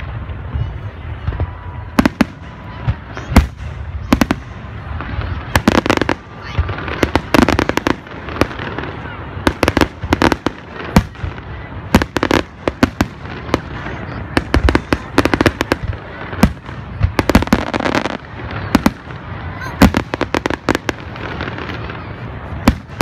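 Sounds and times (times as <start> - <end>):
constant noisy wash: 0.0 - 23.0
fireworks bursting with bangs: 0.0 - 23.0.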